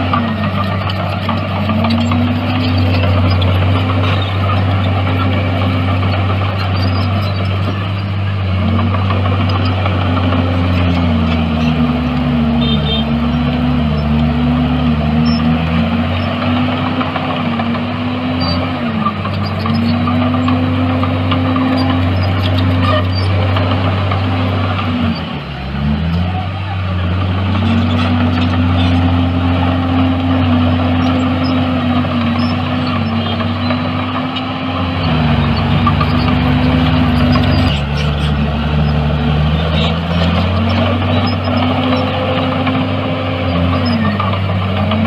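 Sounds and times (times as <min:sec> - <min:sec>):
bulldozer diesel engine under load: 0:00.0 - 0:45.0.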